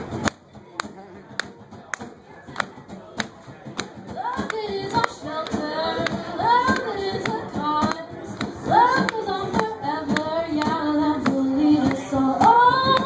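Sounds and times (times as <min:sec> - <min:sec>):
hand claps: 0:00.2 - 0:13.0.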